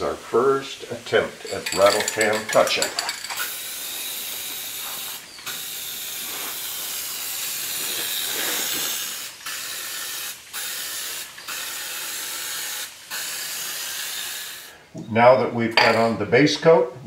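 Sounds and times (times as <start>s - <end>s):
spray paint can hissing: 1.1s - 14.8s.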